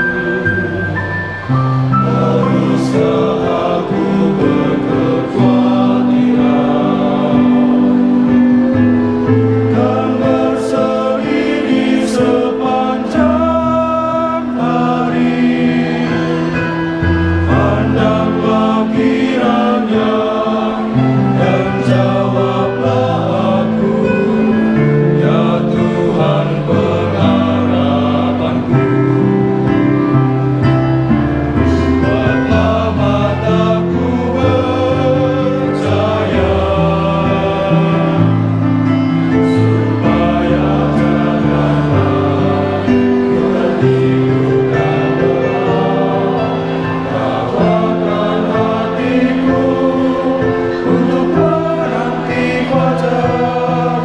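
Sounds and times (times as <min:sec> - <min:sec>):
male choir singing a hymn: 0:00.0 - 0:54.0.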